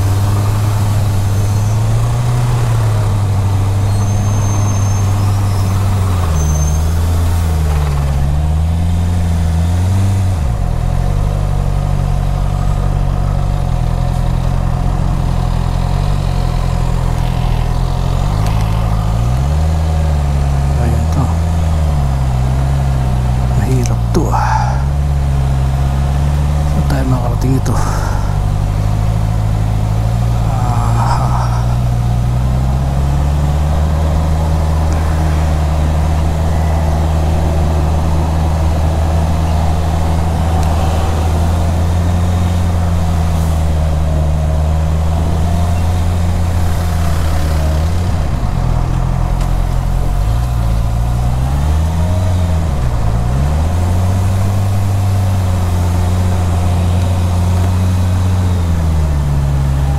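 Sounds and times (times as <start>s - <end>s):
motorcycle engine at low revs: 0.0s - 59.9s.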